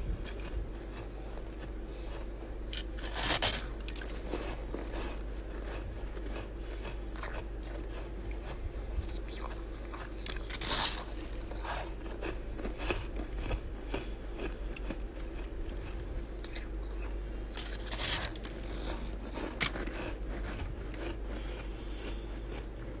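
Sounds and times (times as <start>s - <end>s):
ice being chewed: 0.0s - 23.0s
steady low hum: 0.0s - 23.0s.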